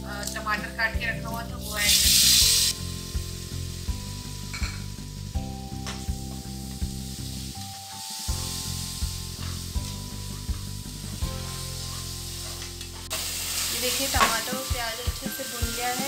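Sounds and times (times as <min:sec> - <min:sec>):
light background music: 0:00.0 - 0:16.0
tomatoes sizzling in hot oil: 0:00.0 - 0:16.0.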